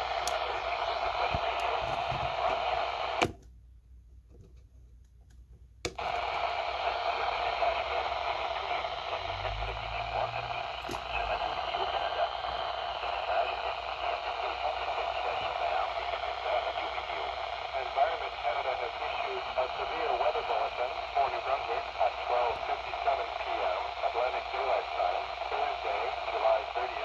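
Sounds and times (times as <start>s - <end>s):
radio static hiss: 0.0s - 3.3s, 6.0s - 27.0s.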